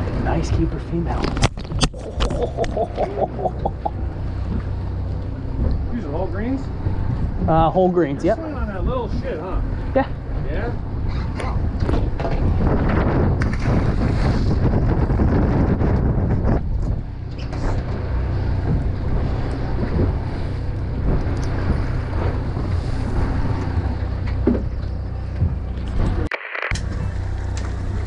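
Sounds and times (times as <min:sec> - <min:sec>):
wind buffeting microphone: 0:00.0 - 0:24.8
boat engine humming: 0:00.0 - 0:28.0.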